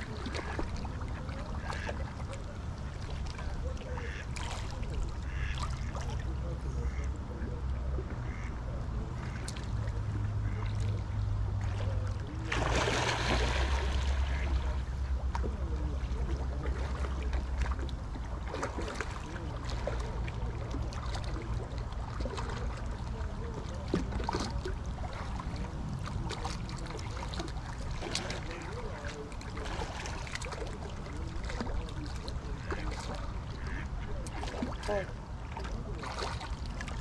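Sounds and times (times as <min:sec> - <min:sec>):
river water splashing and trickling: 0:00.0 - 0:37.0.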